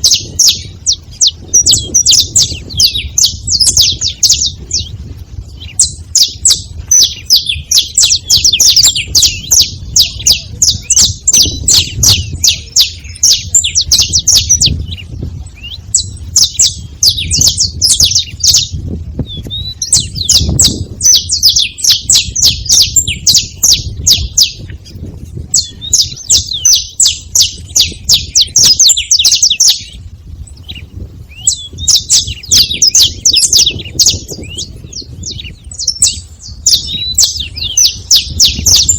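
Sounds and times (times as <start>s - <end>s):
finch chirping: 0.0s - 38.9s.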